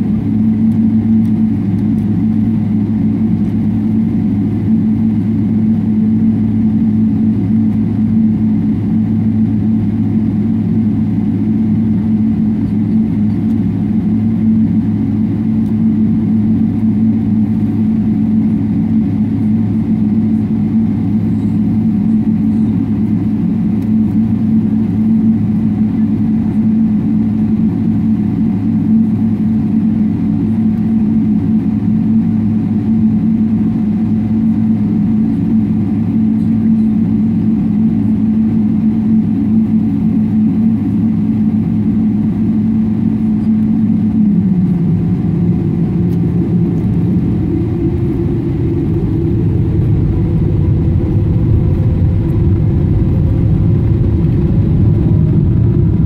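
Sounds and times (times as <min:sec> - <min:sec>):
jet engines idling in cabin: 0:00.0 - 0:56.0.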